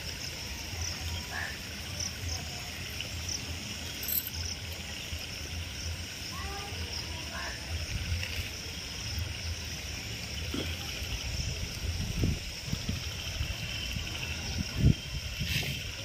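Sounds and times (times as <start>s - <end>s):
frogs and insects chorus: 0.0s - 16.0s.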